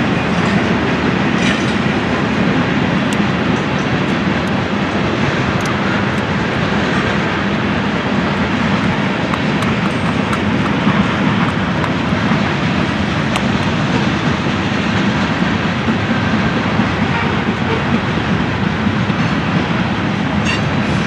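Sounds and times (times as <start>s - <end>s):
freight train wheels rolling: 0.0s - 21.0s.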